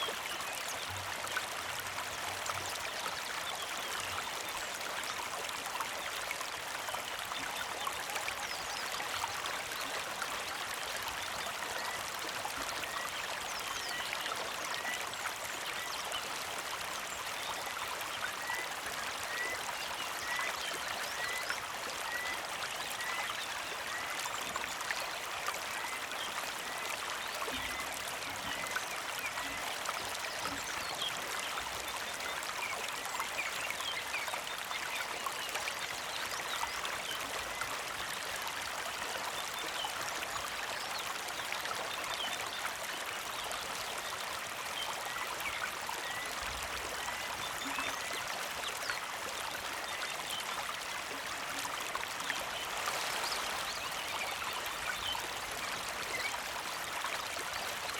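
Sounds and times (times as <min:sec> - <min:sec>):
creek flowing over rocks: 0:00.0 - 0:57.9.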